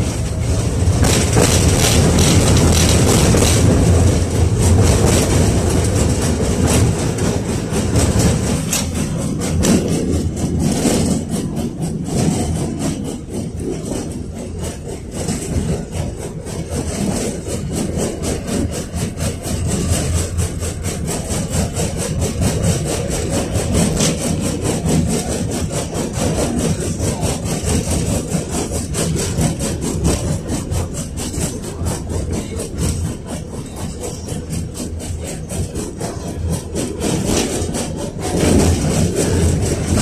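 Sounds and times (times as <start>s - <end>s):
tram wheels rumbling: 0.0s - 40.0s.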